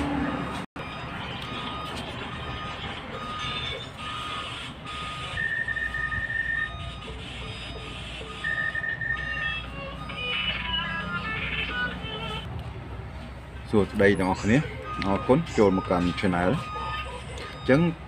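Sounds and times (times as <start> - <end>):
electronic music with beeping tones: 0.2 - 12.5, 14.4 - 18.0.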